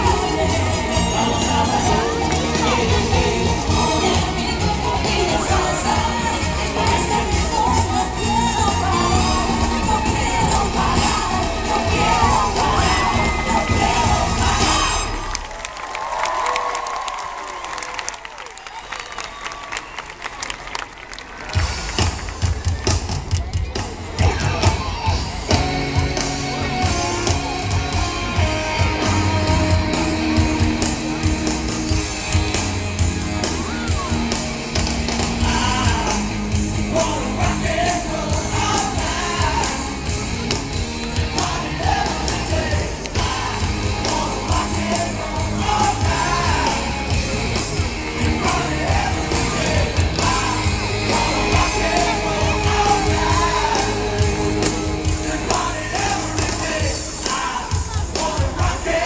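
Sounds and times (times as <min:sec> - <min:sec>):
heavy bass line: 0:00.0 - 0:15.7, 0:24.2 - 0:59.0
rock music with singing: 0:00.0 - 0:15.7, 0:21.5 - 0:59.0.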